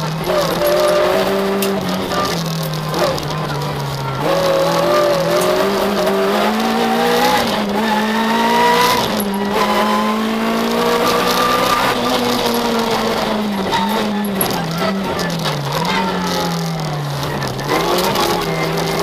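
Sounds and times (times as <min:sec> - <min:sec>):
car engine revving with gear shifts: 0:00.0 - 0:19.0.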